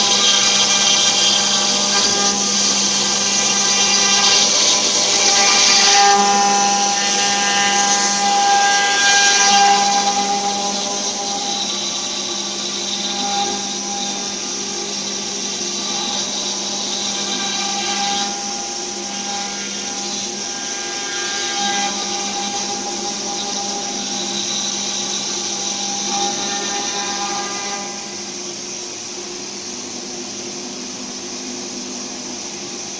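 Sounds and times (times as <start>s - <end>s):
router spindle milling wood: 0.0s - 32.9s.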